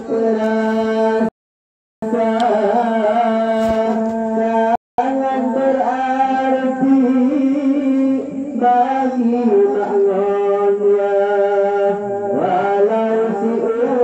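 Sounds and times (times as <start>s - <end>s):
person singing long held notes: 0.0s - 1.3s, 2.0s - 14.0s.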